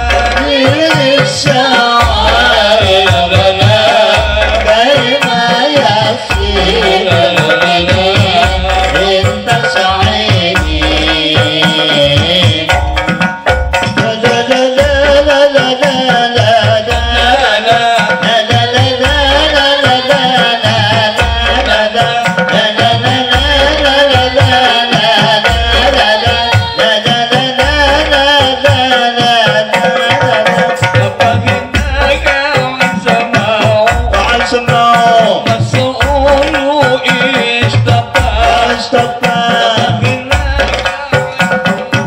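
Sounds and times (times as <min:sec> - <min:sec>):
men singing: 0:00.0 - 0:42.0.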